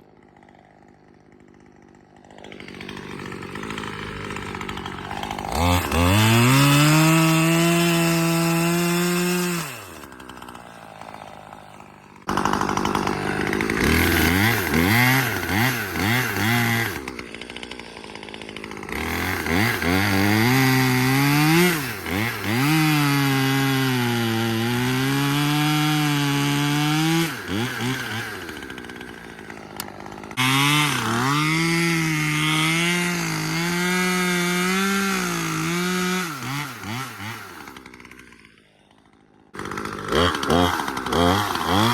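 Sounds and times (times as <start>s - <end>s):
chainsaw revving and cutting wood: 0.0s - 41.9s.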